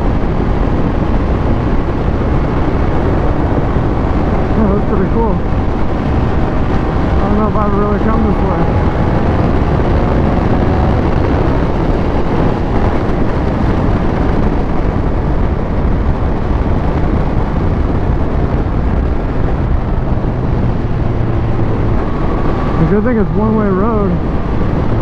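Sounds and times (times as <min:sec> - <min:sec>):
motorcycle engine running at speed: 0:00.0 - 0:25.0
wind rush on microphone: 0:00.0 - 0:25.0.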